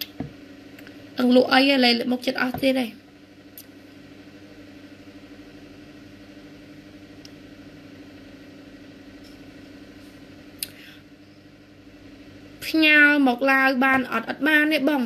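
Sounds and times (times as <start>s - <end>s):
electric fan humming: 0.0s - 15.0s.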